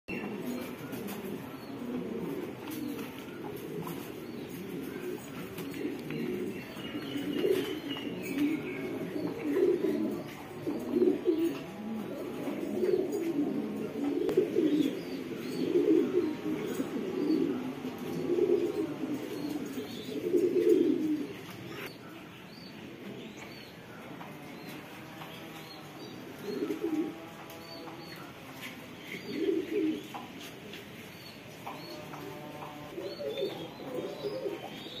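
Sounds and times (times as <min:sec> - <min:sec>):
pigeons cooing: 0:00.1 - 0:22.0, 0:22.8 - 0:35.0.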